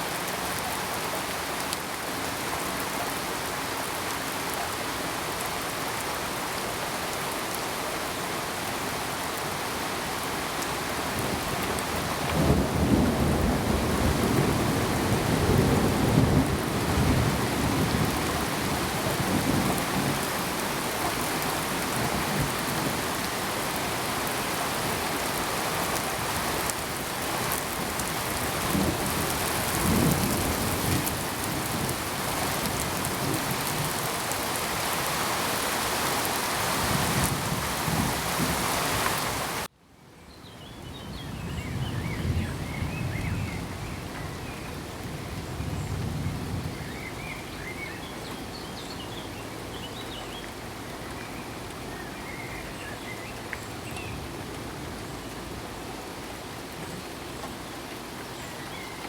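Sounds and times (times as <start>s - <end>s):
steady rain falling: 0.0s - 39.7s, 40.5s - 59.0s.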